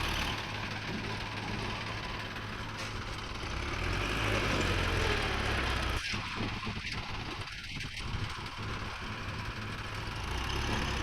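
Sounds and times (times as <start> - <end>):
diesel engine of earthmover: 0.0 - 11.0.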